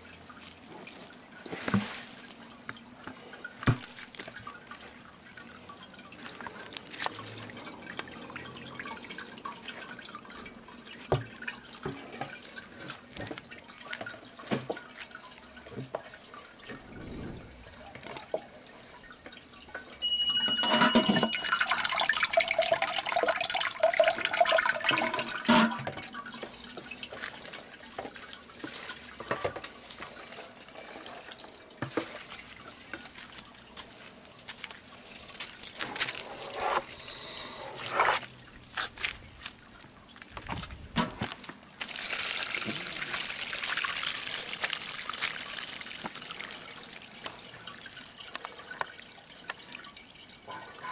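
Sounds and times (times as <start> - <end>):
juice trickling and dripping: 0.0 - 50.9.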